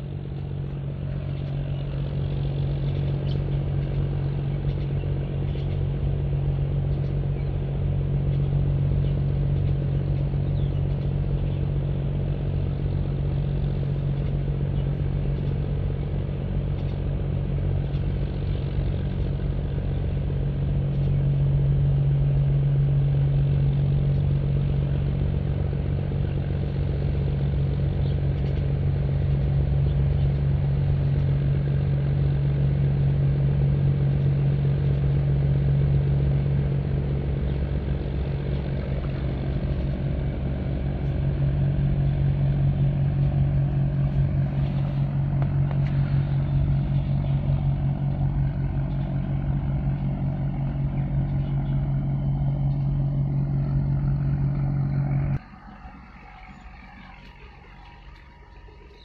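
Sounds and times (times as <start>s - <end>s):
engine drone with low hum: 0.0s - 59.0s.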